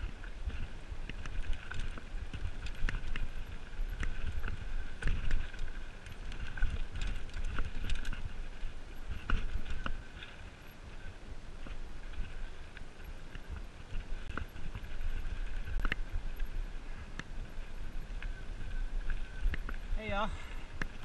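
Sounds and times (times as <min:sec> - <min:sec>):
bike rattling and clattering: 0:00.0 - 0:21.0
bike tyres crunching on rocks: 0:00.0 - 0:21.0
wind rumble on microphone: 0:00.0 - 0:21.0.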